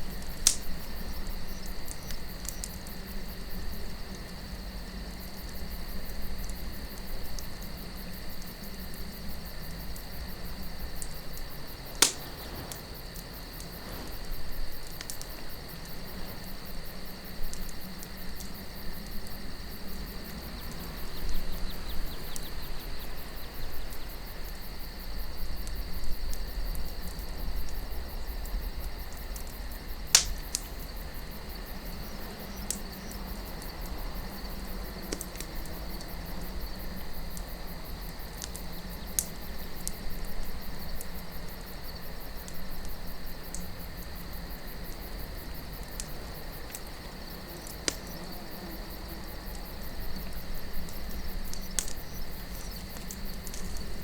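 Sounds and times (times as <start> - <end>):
fire popping loudly: 0.0 - 9.4, 10.1 - 24.2, 28.7 - 41.8, 42.5 - 54.0
campfire crackling: 0.0 - 54.0
crickets chirring: 0.0 - 54.0.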